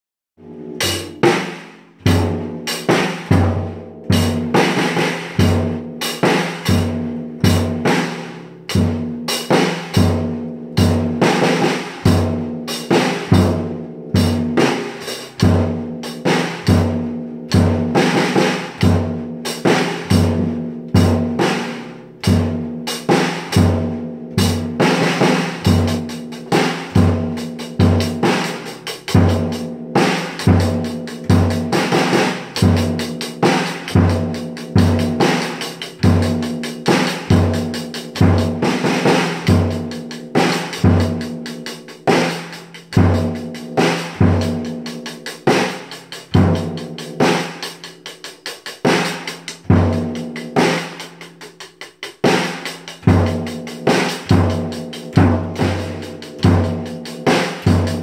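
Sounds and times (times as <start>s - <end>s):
snare and tom hits: 0.8s - 58.0s.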